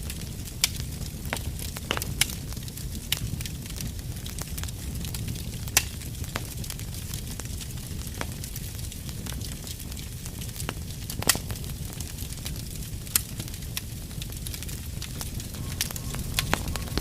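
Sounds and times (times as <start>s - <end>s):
fire crackles and pops: 0.0s - 17.0s
fire rumbling in fireplace: 0.0s - 17.0s.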